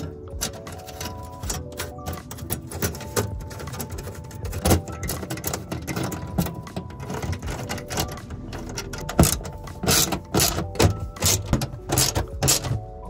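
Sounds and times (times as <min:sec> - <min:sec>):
hand ratchet clicking: 0:00.0 - 0:12.8.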